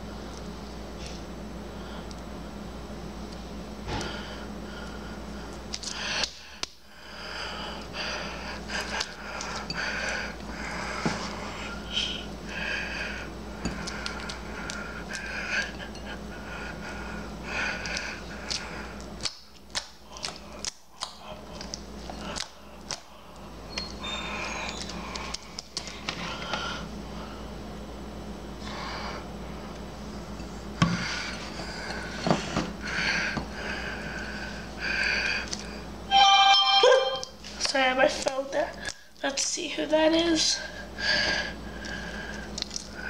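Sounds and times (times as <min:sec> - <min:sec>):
low hum: 0:00.0 - 0:37.6.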